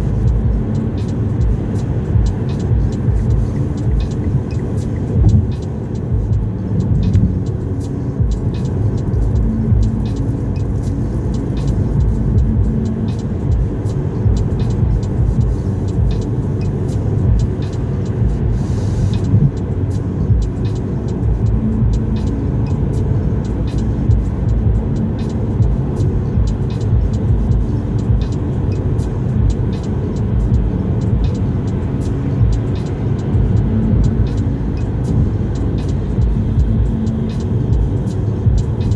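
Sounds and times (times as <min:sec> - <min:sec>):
tyre and engine rumble: 0:00.0 - 0:38.9.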